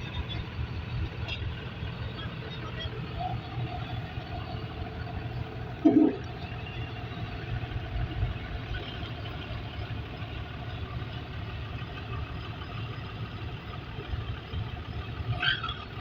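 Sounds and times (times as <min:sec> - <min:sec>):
heavy vehicle engine idling: 0:00.0 - 0:16.0.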